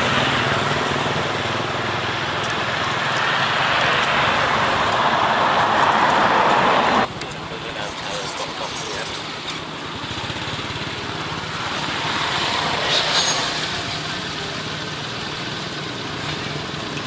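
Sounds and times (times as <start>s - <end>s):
engine-like hum: 0.0s - 17.0s.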